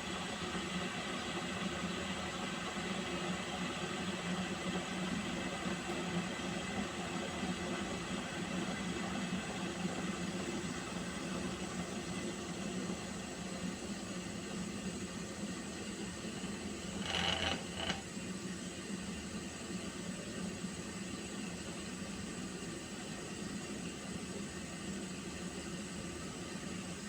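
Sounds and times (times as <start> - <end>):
water heating in a pot: 0.0 - 27.0.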